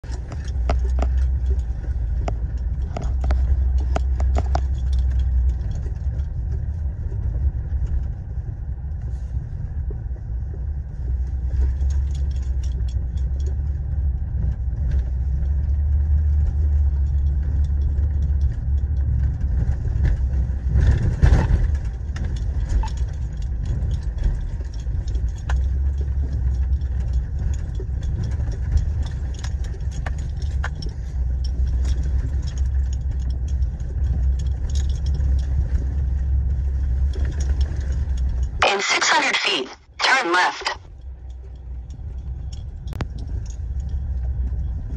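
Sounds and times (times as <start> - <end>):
interior rattles and clicks: 0.0 - 39.6, 40.6 - 44.9
tyres and engine rumble: 0.0 - 44.9.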